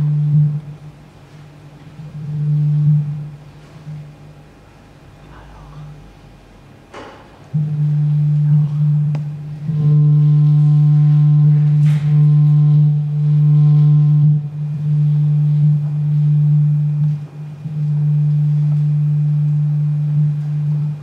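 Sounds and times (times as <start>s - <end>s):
synthesizer drone: 0.0s - 6.8s, 7.4s - 21.0s.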